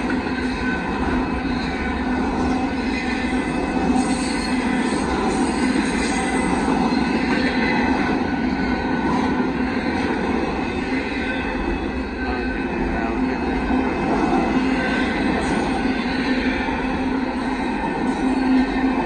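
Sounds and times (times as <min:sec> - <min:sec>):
freight train wheels clattering: 0:00.0 - 0:19.0.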